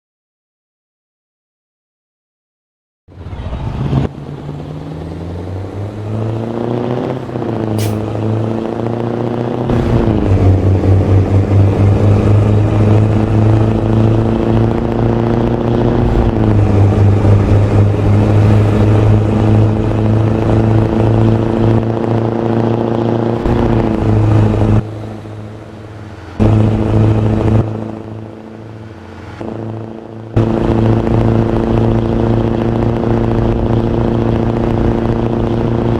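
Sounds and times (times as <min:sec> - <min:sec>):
car engine starting and running: 0:03.1 - 0:35.9.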